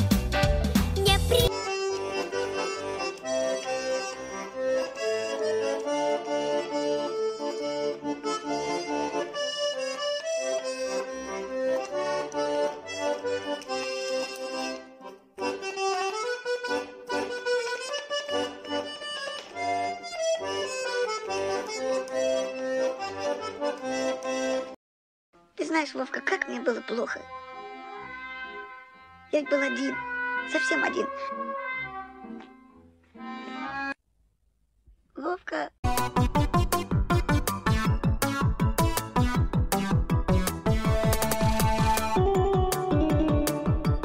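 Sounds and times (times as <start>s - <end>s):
instrumental background music: 0.0s - 24.8s, 25.4s - 34.0s, 35.8s - 44.0s.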